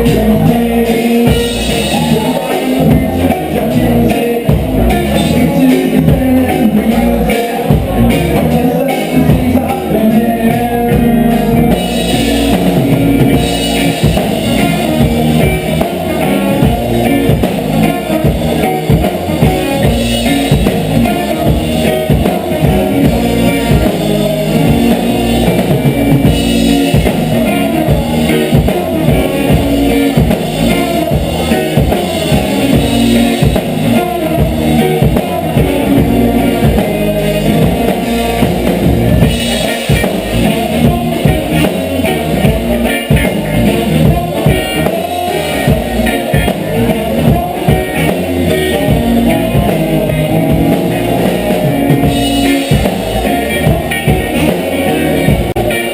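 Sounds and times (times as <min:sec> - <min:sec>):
reggae band playing: 0:00.0 - 0:55.9.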